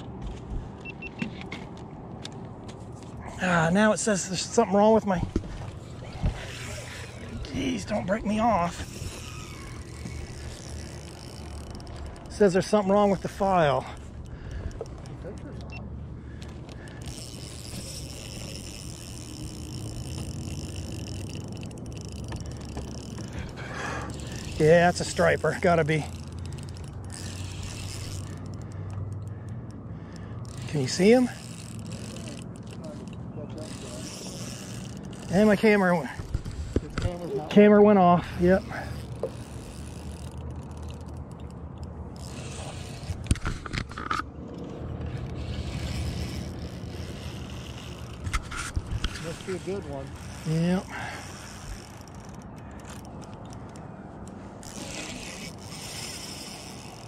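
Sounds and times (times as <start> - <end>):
fishing reel whining: 5.5 - 57.0.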